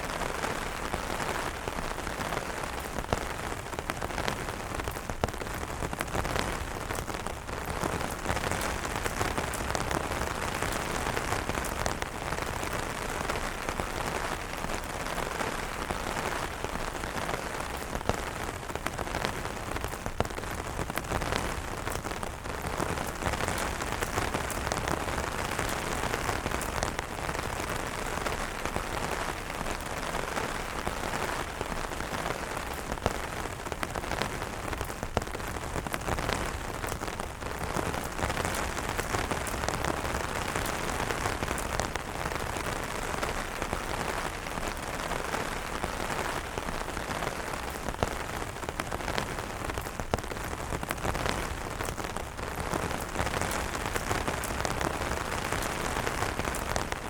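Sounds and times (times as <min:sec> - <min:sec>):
rain on an umbrella: 0:00.0 - 0:57.0.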